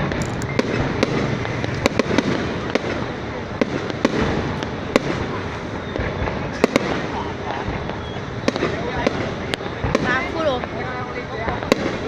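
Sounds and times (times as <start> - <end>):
fireworks bursting: 0.0 - 12.0
sharp firework bangs: 0.0 - 12.0.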